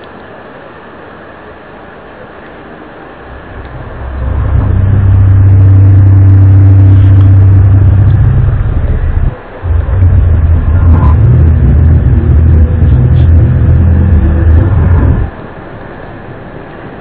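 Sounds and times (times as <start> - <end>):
low droning hum: 1.5 - 17.0.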